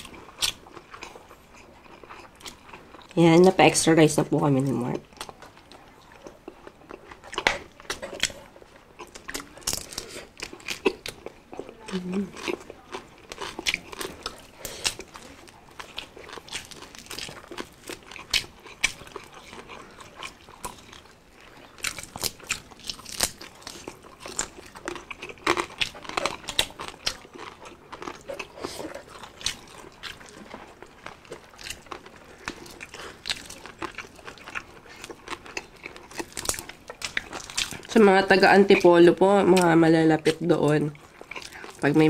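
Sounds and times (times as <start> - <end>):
crunching crispy food: 0.0 - 42.0
wet chewing: 0.0 - 42.0.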